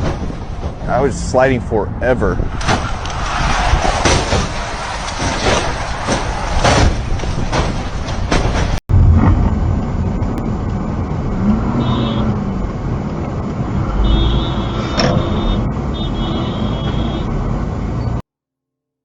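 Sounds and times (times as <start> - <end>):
vehicle road and engine rumble: 0.0 - 18.2.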